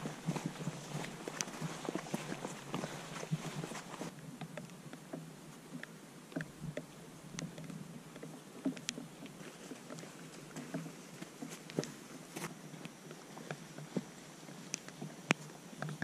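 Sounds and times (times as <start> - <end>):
raindrops ticking: 0.0 - 12.0, 12.7 - 16.0
soft steady rain: 0.0 - 16.0.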